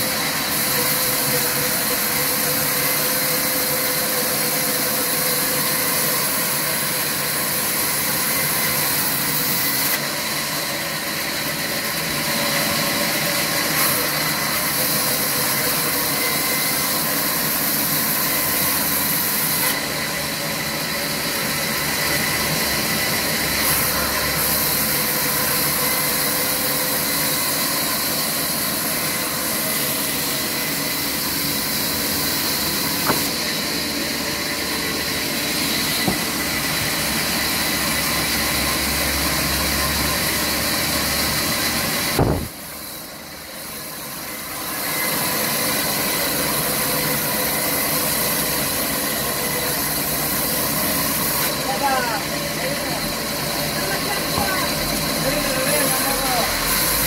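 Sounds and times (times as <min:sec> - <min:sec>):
sawmill saw cutting logs: 0:00.0 - 0:57.0.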